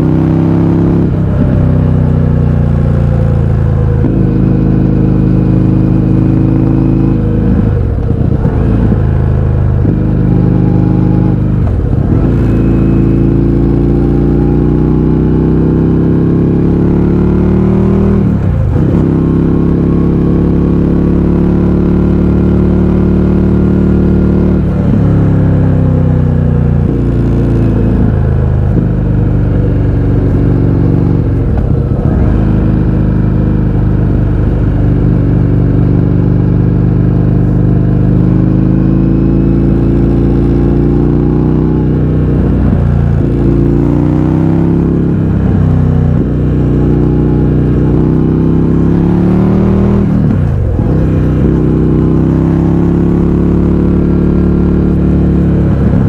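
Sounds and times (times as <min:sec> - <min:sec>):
motorcycle engine revving loud: 0:00.0 - 0:56.0.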